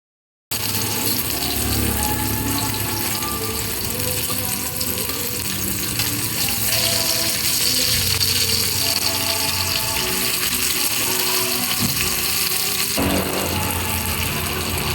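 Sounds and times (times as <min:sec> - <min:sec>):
background music: 0:00.5 - 0:14.9.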